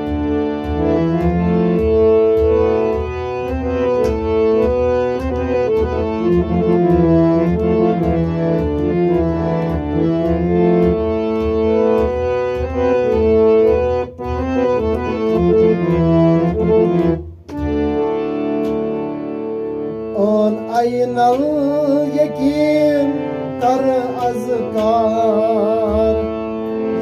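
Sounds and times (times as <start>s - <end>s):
harmonium melody: 0.0s - 27.0s.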